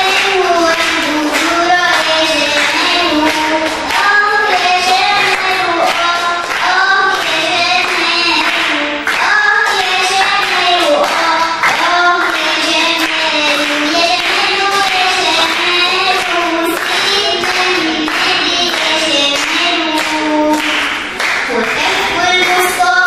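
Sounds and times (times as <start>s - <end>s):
girl singing into a microphone: 0.0s - 23.0s.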